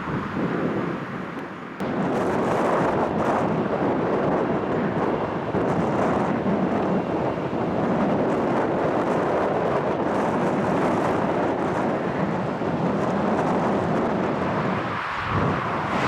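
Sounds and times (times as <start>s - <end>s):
jet airliner engines: 0.0s - 16.0s
wind buffeting microphone: 0.0s - 16.0s.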